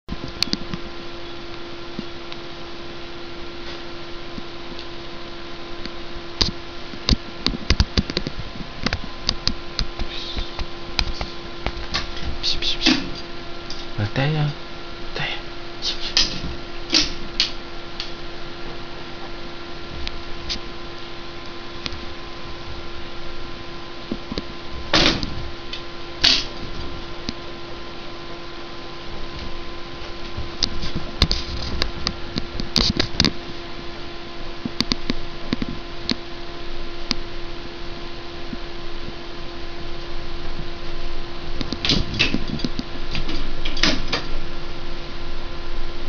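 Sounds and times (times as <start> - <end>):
room hum: 0.1 - 46.0.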